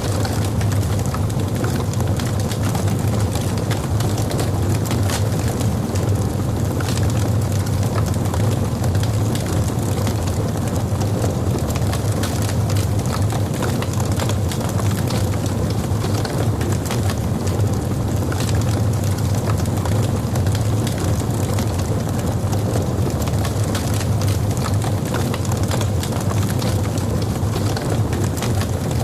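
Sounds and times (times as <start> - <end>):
log fire crackling: 0.0 - 29.0.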